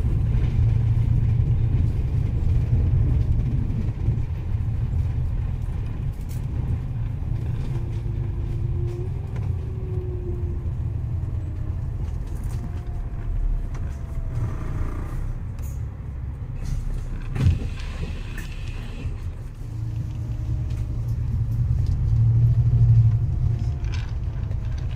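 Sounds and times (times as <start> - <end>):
bus engine and road rumble: 0.0 - 24.9.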